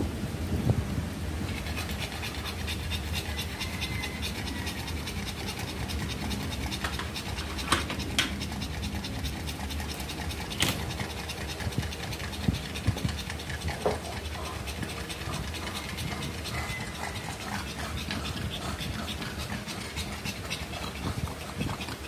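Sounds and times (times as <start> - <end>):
dog panting: 1.4 - 22.0.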